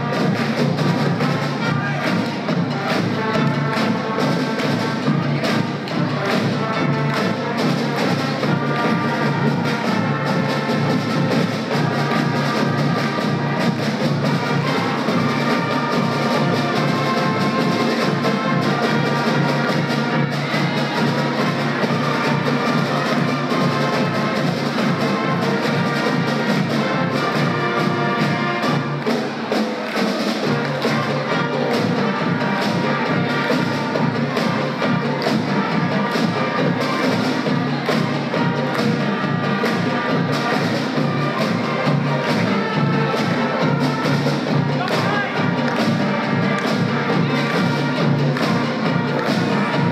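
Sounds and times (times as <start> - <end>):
pep band playing brass tune: 0.0 - 49.9.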